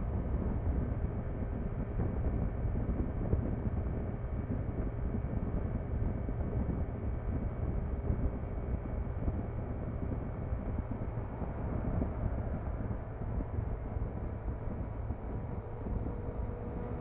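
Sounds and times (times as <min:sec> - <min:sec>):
tyre roar on road: 0:00.0 - 0:17.0
wind noise: 0:00.0 - 0:17.0.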